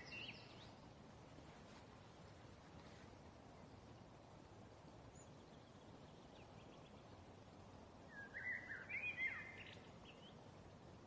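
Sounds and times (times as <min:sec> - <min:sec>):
songbird chirping: 0:00.0 - 0:10.8
steady background hiss: 0:00.0 - 0:11.0.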